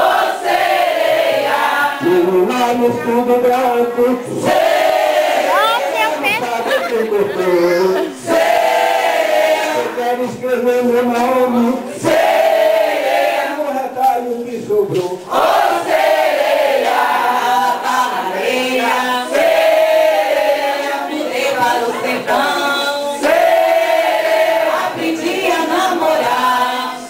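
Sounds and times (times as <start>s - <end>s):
group of people singing: 0.0s - 27.0s.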